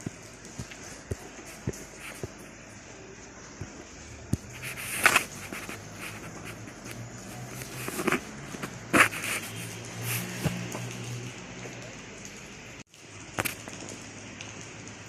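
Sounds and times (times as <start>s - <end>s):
drips ticking on a surface: 0.0s - 15.0s
rain falling: 0.0s - 15.0s.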